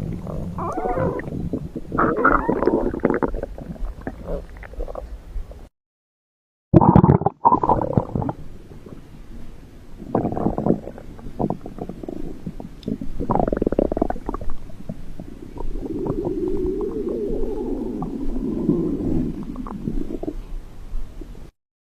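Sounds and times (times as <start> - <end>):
stomach growling: 0.0 - 5.2, 6.8 - 9.0, 10.0 - 20.5.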